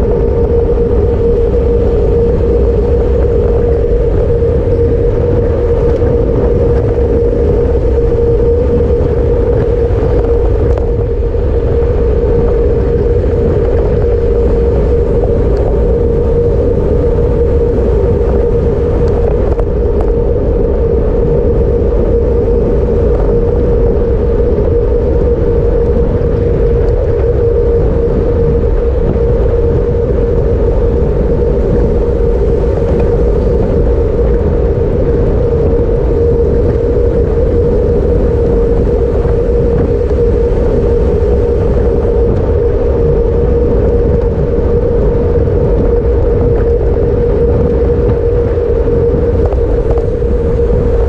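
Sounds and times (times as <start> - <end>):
mid-pitched hum: 0.0 - 51.0
road rumble: 0.0 - 51.0
wind rush: 0.0 - 51.0.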